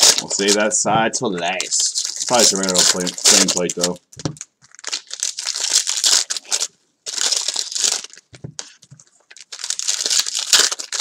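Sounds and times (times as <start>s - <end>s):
foil wrapper crinkling: 0.0s - 0.7s, 1.4s - 11.0s.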